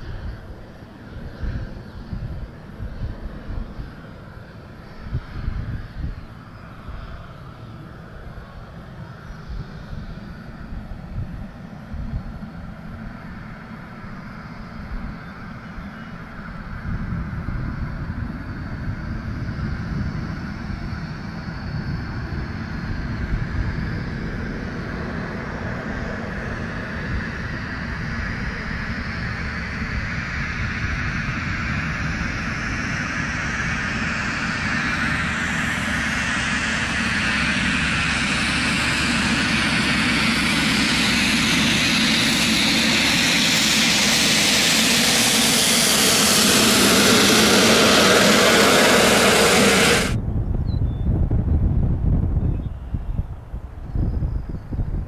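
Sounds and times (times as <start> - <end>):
propeller plane engine: 0.0 - 55.0.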